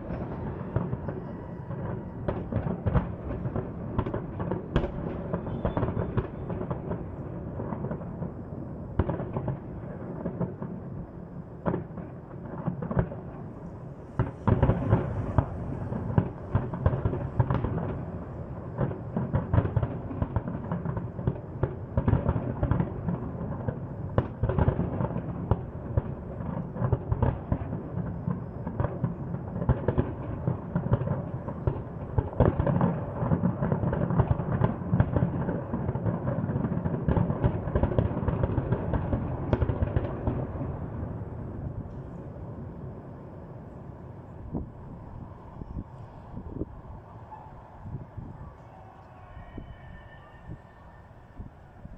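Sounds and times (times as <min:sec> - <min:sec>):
fireworks bangs and booms: 0:00.0 - 0:43.5.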